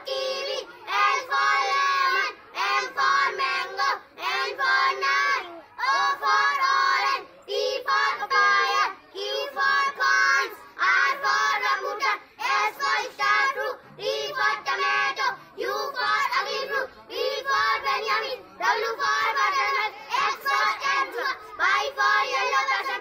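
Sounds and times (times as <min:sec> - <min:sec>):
girls chanting in unison: 0:00.0 - 0:23.0.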